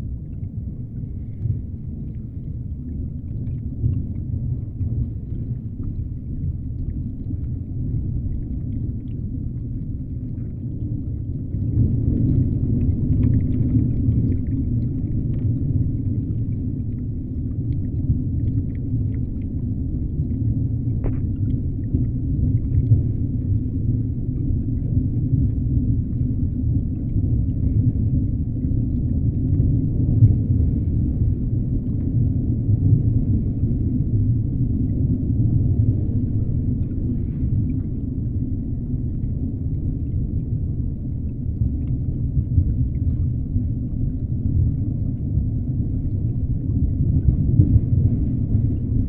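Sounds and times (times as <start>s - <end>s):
underwater low rumble: 0.0s - 49.0s.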